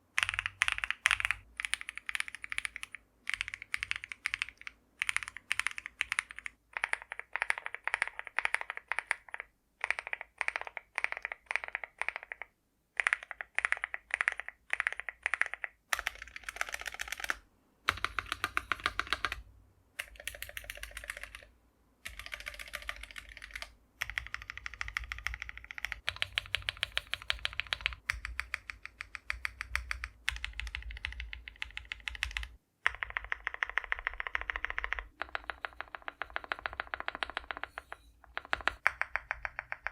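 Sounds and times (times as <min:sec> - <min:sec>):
keyboard typing: 0:00.1 - 0:39.9.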